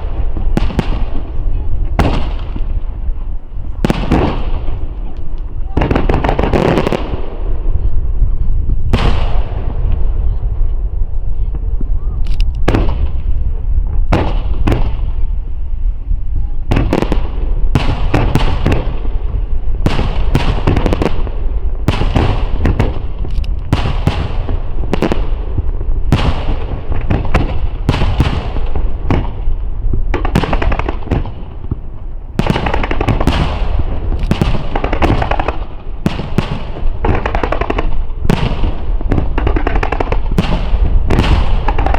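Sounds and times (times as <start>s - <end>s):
fireworks bursting with crackling: 0.0s - 41.9s.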